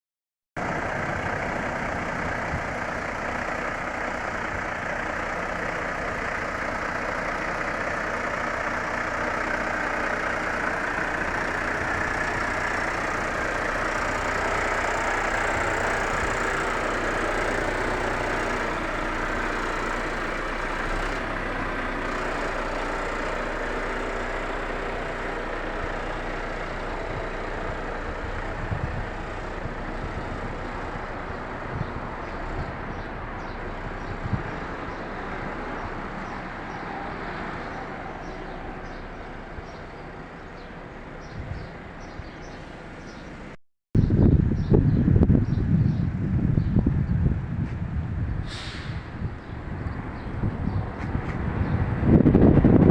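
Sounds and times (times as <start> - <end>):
heavy vehicle engine running: 0.6 - 52.9
road noise: 0.6 - 52.9.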